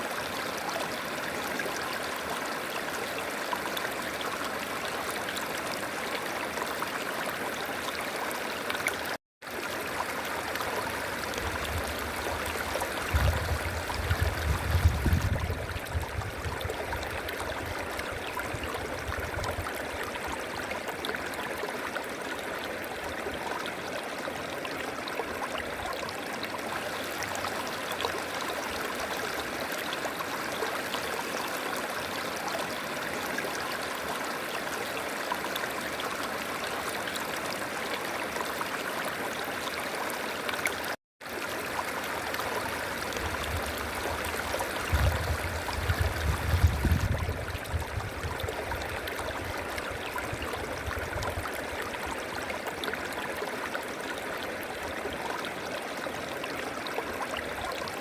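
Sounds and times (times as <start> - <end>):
river water flowing and gurgling: 0.0 - 58.0.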